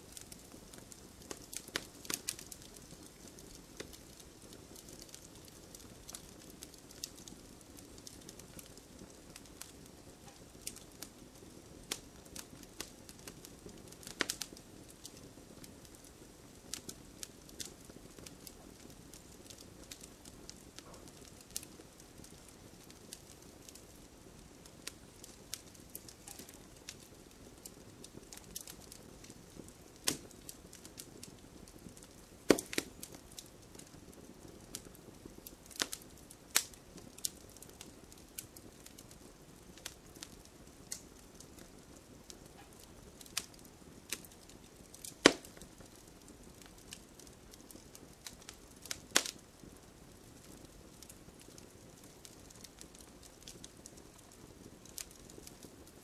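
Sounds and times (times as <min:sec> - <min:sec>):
fire crackling: 0:00.0 - 0:56.0
low steady hiss: 0:00.0 - 0:56.0.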